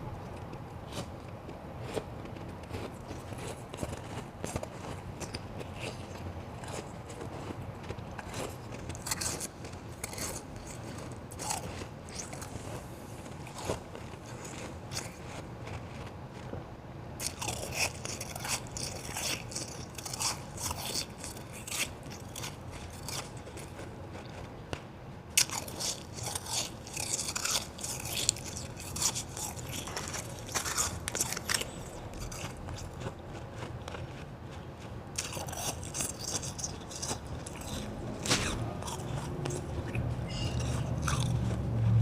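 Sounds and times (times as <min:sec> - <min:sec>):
chewing ice crunches: 0:00.3 - 0:16.5, 0:17.2 - 0:24.6, 0:25.3 - 0:42.0.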